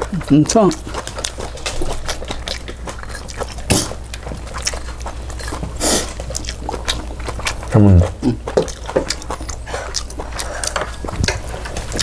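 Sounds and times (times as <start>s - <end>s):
chewing and crunching food: 0.0s - 12.0s.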